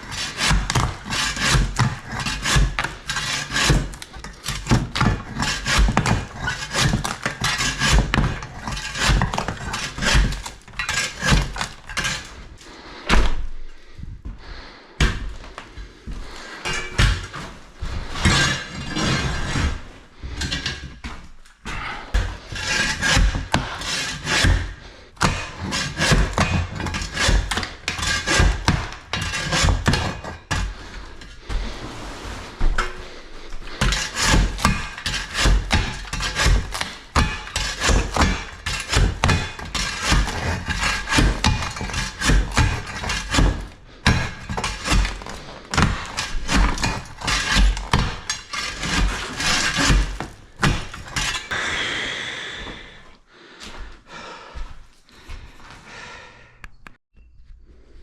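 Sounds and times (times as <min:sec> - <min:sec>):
scraping on wood: 0:00.0 - 0:51.5.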